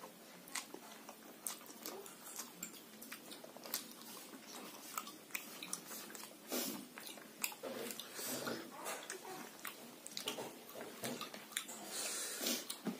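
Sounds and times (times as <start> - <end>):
person chewing food: 0.0 - 12.9.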